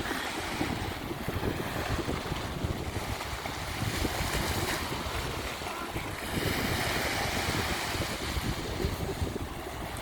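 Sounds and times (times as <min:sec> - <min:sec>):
sea waves washing onto beach: 0:00.0 - 0:10.0
wind buffeting microphone: 0:00.0 - 0:10.0.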